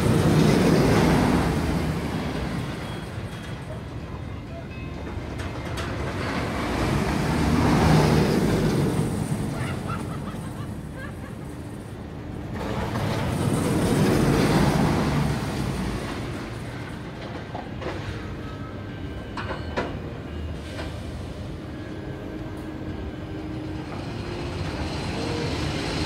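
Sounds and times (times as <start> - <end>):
roller coaster rumbling on track: 0.0 - 26.0.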